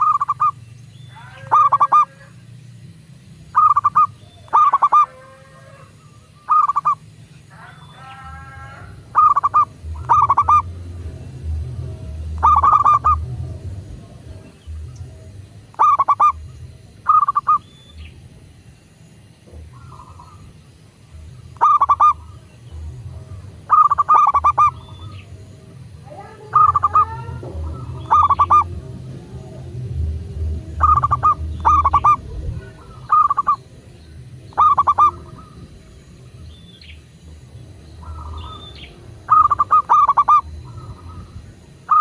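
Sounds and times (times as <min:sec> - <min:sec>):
bird chirps: 0:00.0 - 0:42.0
doves cooing: 0:00.0 - 0:42.0.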